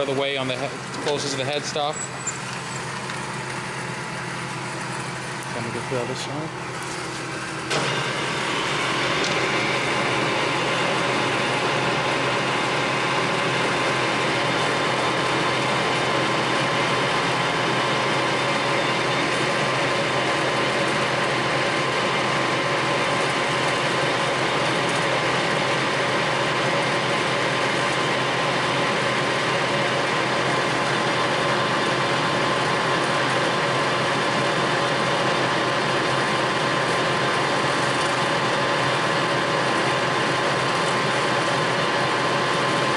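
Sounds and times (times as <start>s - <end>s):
lathe running: 0.0s - 42.9s.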